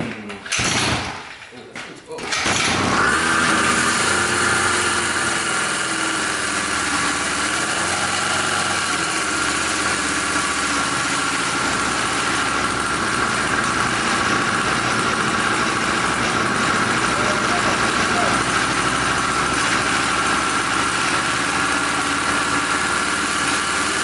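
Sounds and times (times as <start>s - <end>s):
two-stroke engine idling: 2.2s - 24.0s.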